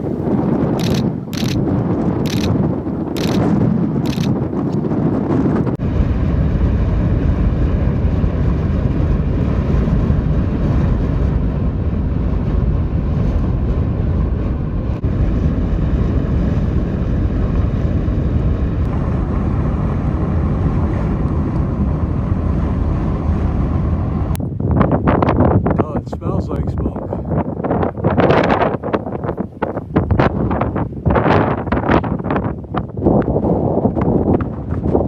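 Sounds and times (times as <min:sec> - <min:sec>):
loud low rumbling noise: 0:05.0 - 0:35.0.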